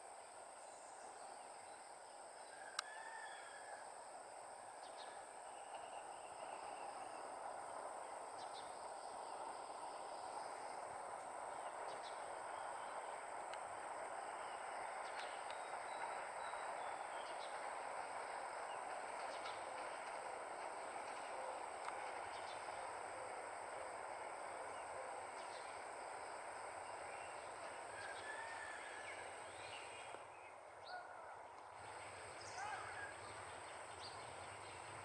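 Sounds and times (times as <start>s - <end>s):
distant diesel train rumble: 0.0s - 35.0s
high insect whine: 0.0s - 35.0s.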